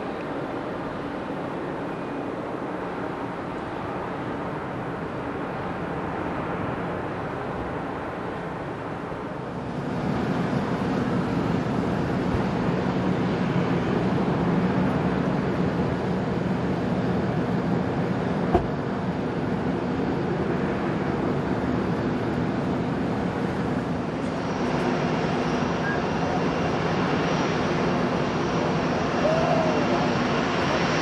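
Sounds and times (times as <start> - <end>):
jet engine rumble and whine: 0.0 - 31.0.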